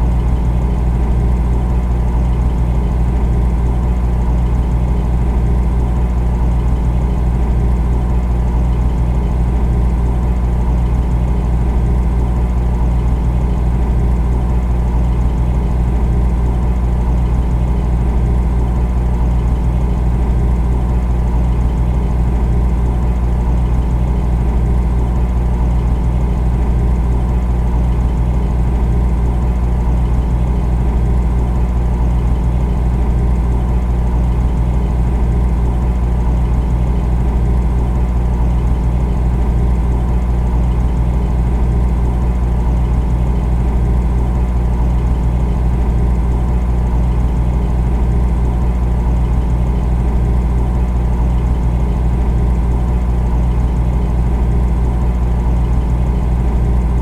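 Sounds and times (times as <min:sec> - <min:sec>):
refrigerator humming: 0:00.0 - 0:57.0.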